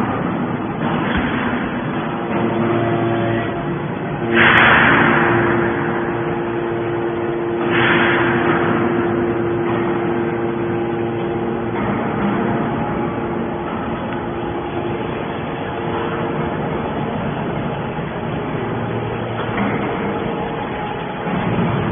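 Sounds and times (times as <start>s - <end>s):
baler motor and pump hum: 0.0s - 21.9s.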